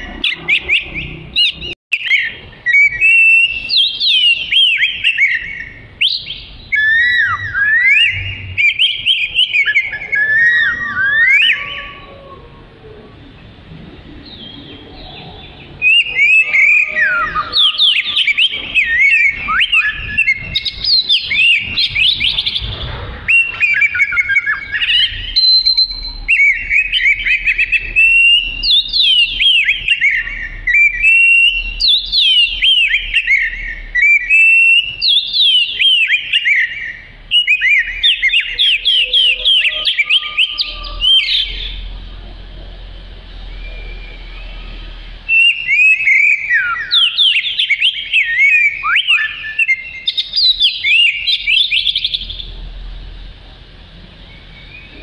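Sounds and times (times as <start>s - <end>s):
bird singing whistled phrases: 0.0s - 12.4s, 14.2s - 22.7s, 23.3s - 41.9s, 43.4s - 52.5s.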